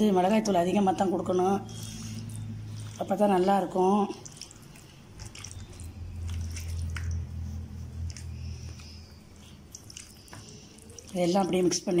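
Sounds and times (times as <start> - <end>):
hand squishing wet marinade: 0.0 - 12.0.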